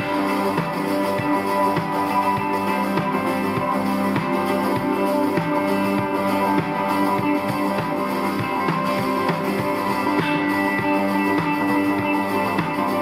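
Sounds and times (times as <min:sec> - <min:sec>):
band music with guitar and drums: 0:00.0 - 0:13.0.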